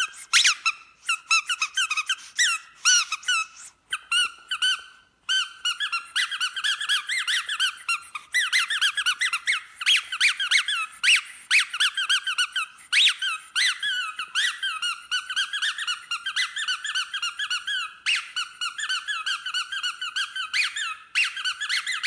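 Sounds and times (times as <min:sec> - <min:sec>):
squeaky dog toy squeaking: 0:00.0 - 0:22.0.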